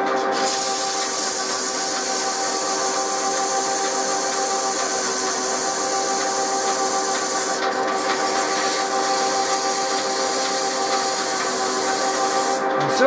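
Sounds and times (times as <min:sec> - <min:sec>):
metal lathe running: 0:00.0 - 0:13.0
rasping hiss of rust scouring: 0:00.3 - 0:12.7.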